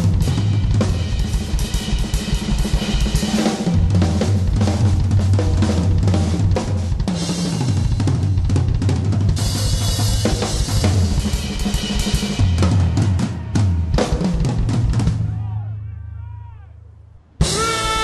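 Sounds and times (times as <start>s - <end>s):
rock drum kit playing: 0.0s - 15.4s, 17.4s - 18.0s.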